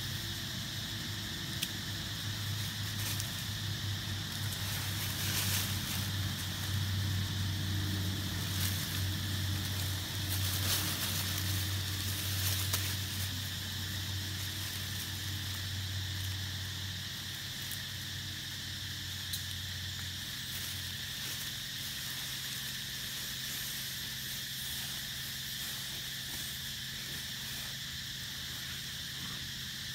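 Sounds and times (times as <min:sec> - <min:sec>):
high-pitched insect drone: 0:00.0 - 0:29.9.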